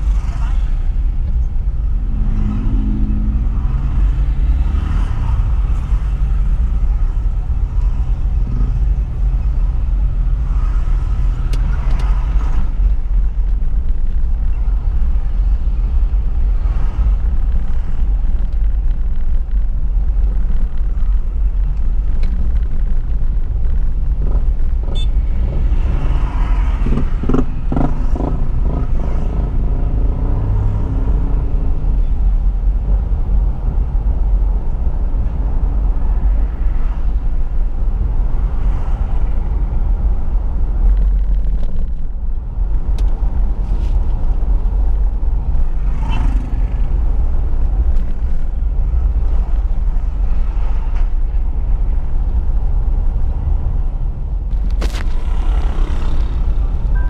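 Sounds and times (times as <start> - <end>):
car road rumble from inside: 0.0 - 57.0.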